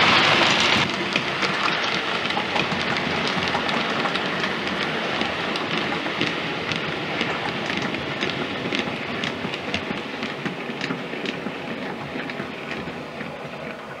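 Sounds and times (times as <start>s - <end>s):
model train wheels rolling: 0.0s - 14.0s
rail joint clicks: 0.0s - 14.0s.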